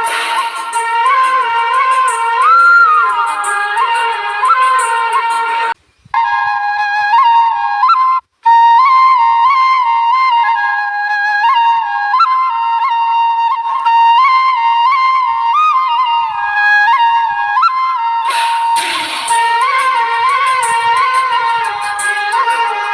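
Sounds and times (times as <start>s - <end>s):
solo flute melody: 0.0s - 22.9s.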